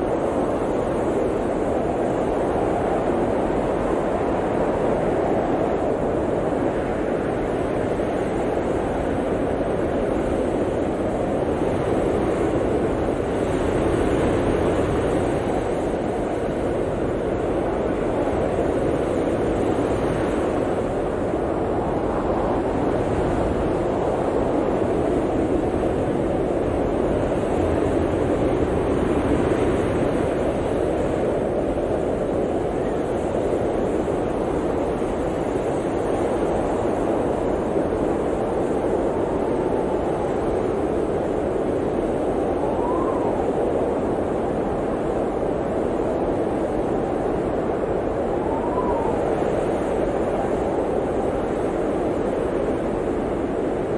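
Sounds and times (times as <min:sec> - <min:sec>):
blizzard wind roaring: 0:00.0 - 0:53.9.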